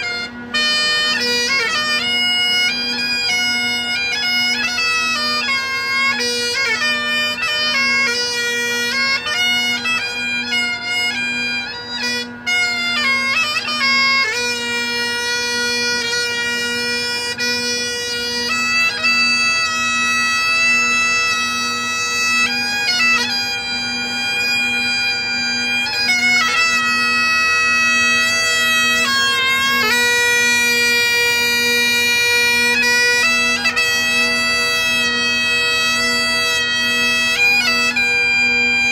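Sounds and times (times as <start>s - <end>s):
bagpipe playing slow tune: 0.0s - 38.9s.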